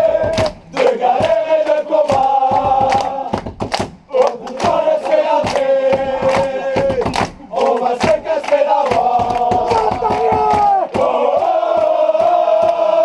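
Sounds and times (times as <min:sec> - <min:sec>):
group chanting: 0:00.0 - 0:03.5, 0:04.1 - 0:13.0
hand-clapping: 0:00.2 - 0:13.0.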